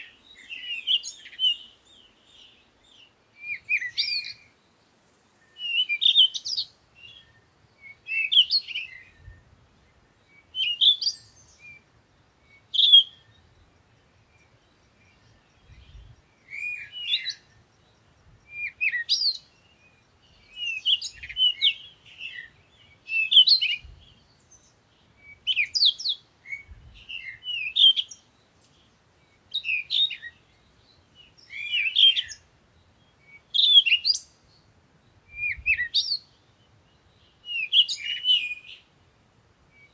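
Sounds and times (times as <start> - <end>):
bird song high chirps: 0.0 - 39.9.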